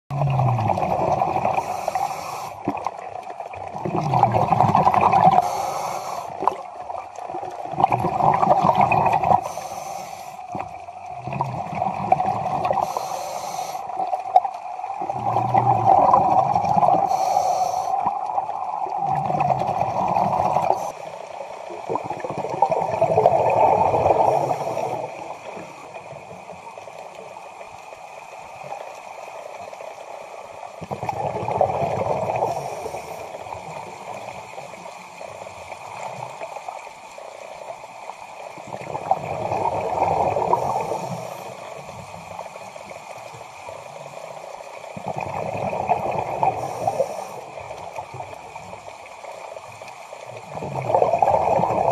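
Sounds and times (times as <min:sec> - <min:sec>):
underwater hiss: 0:00.2 - 0:02.8, 0:04.0 - 0:06.7, 0:08.0 - 0:26.8, 0:27.8 - 0:51.9.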